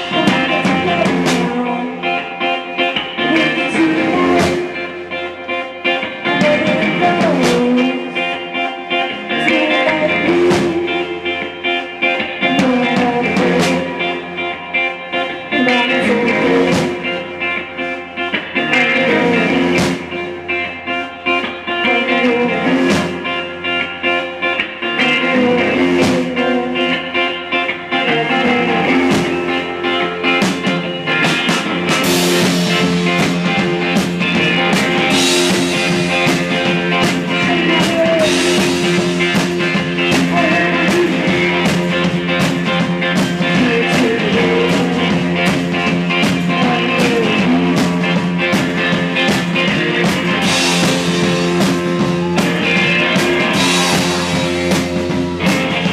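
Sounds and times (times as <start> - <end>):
distorted electric guitar: 0.0 - 55.9
drums with cymbal and snare: 0.0 - 55.9.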